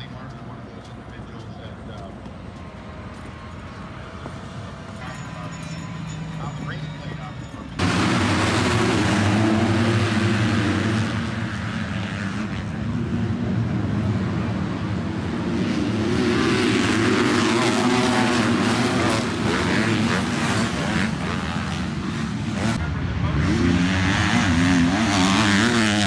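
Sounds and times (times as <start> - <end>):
motocross bikes revving: 3.3 - 26.0.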